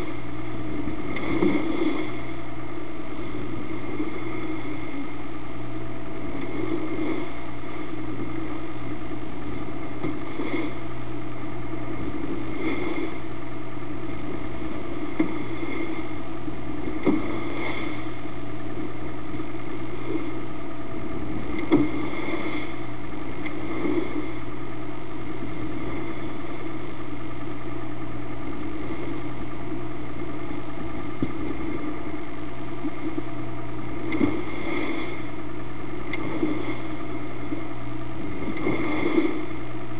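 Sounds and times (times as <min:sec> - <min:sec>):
boat engine droning hum: 0:00.0 - 0:39.9.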